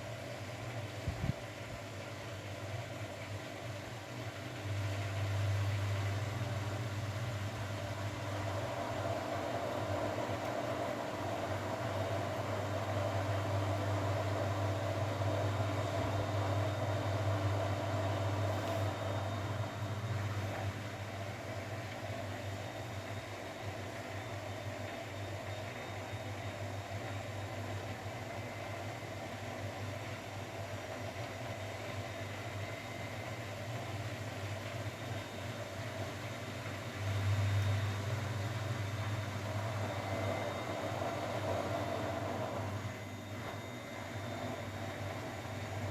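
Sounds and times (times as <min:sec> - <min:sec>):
washing machine motor humming: 0:00.0 - 0:45.9.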